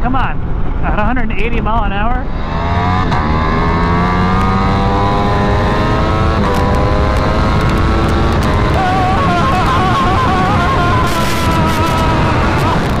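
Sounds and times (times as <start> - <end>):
heavy wind rush: 0.0 - 13.0
motorcycle engine at full throttle: 2.1 - 13.0.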